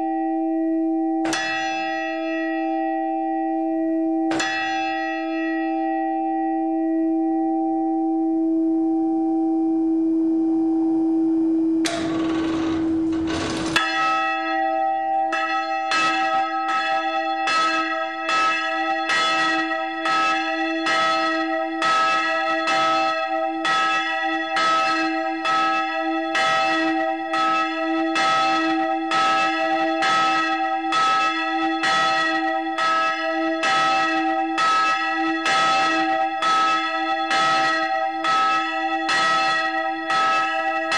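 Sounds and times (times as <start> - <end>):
church bell ringing: 0.0 - 9.9, 11.8 - 40.9.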